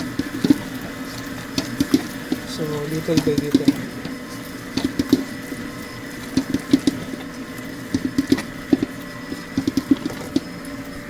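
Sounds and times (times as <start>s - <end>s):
electric mixer motor hum: 0.0s - 11.0s
mixer knocking and clicking: 0.0s - 11.0s.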